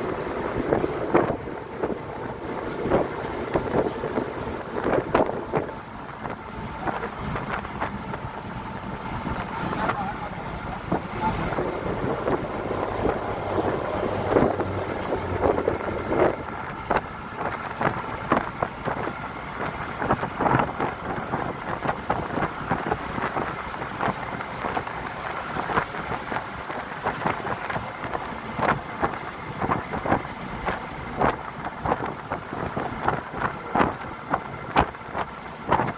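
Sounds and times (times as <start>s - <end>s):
road and wind noise: 0.0s - 35.9s.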